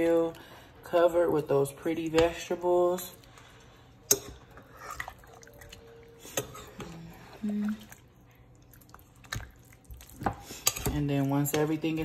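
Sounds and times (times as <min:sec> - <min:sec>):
spoon stirring wet food: 0:00.0 - 0:12.0.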